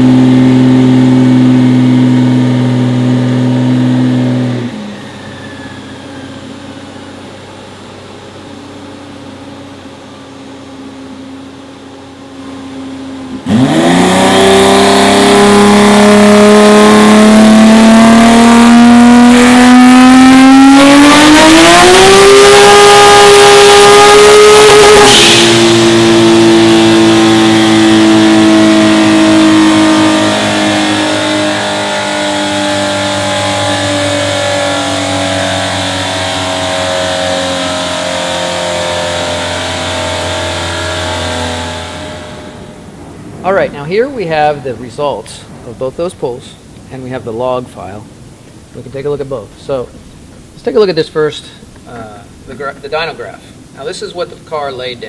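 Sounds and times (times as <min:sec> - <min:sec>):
car engine revving on dyno: 0:00.0 - 0:45.1.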